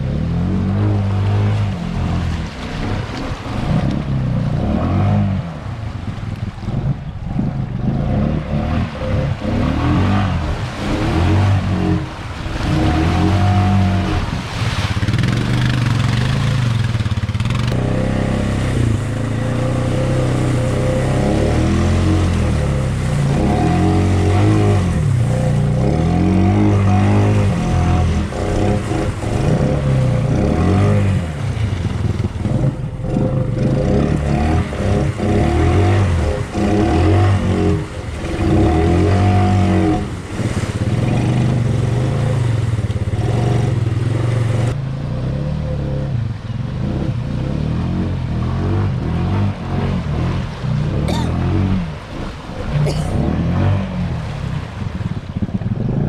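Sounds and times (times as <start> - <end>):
atv engine revving: 0.0 - 5.7, 6.6 - 56.0.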